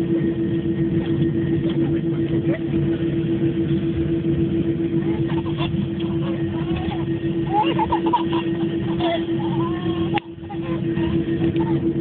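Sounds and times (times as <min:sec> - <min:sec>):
jet engines rumbling: 0:00.0 - 0:12.0
steady droning tone: 0:00.0 - 0:12.0.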